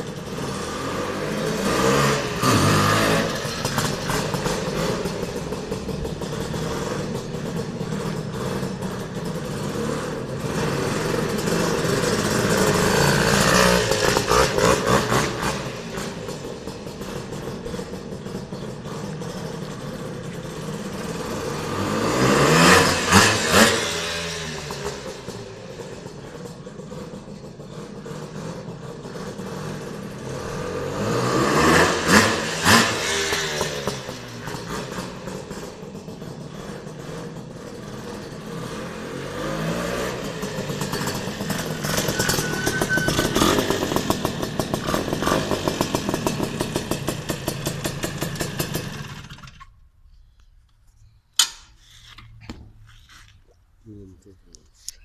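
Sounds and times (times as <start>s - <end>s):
motorcycle engine revving: 0.0s - 49.8s.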